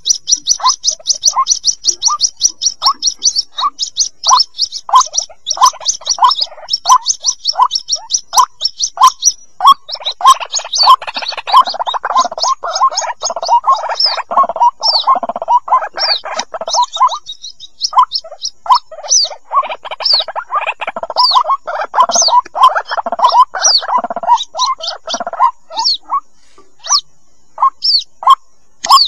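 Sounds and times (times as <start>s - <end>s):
waterhen chicks calling: 0.0s - 29.0s.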